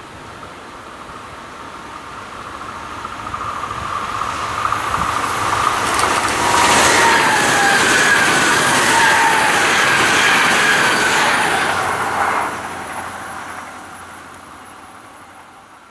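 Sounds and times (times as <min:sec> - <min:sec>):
high train whine: 0:00.0 - 0:15.9
train rumble and rail noise: 0:00.0 - 0:15.9.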